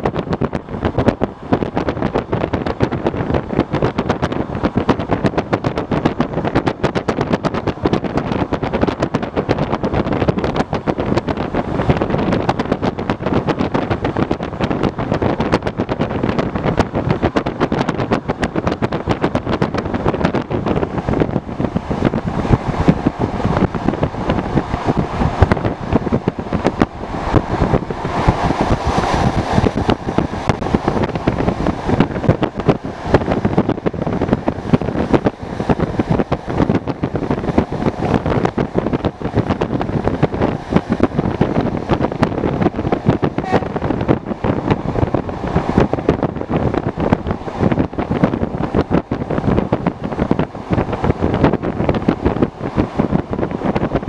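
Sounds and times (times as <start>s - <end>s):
rushing wind: 0.0s - 54.0s
train wheels rumbling on rails: 0.0s - 54.0s.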